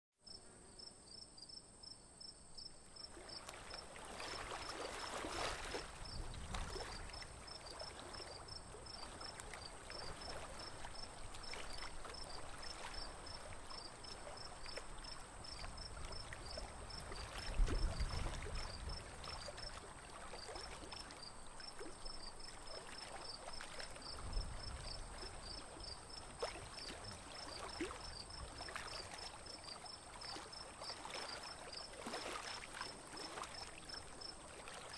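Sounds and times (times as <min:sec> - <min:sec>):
insects chirping: 0:00.3 - 0:34.9
water splashing around boat: 0:03.0 - 0:34.9.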